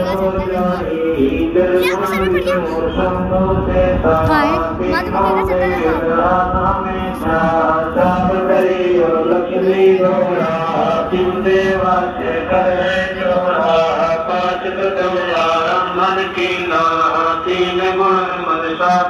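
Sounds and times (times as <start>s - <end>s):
devotional hymn chanting: 0.0s - 19.0s.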